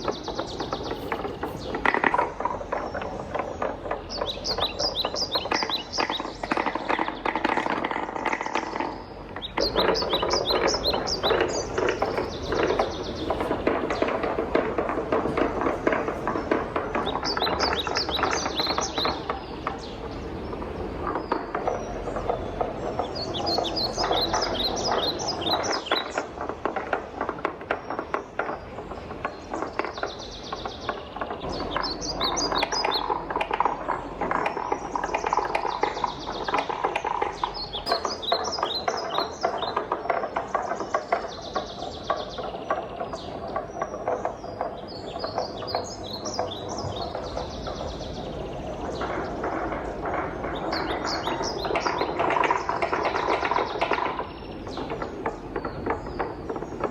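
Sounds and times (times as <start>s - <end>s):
wooden balls rolling on a marble run: 0.0s - 56.9s.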